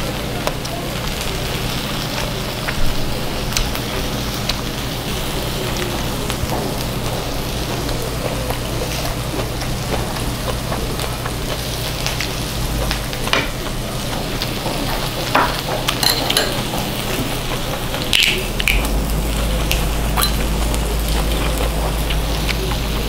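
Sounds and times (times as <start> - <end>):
pork sizzling on a griddle: 0.0 - 23.0.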